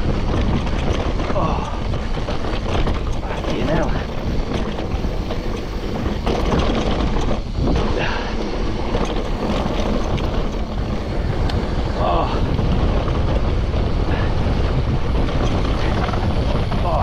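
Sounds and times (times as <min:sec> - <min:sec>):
bike rattling and knocking: 0:00.0 - 0:17.0
bike tyres on dirt trail: 0:00.0 - 0:17.0
wind rushing over microphone: 0:00.0 - 0:17.0.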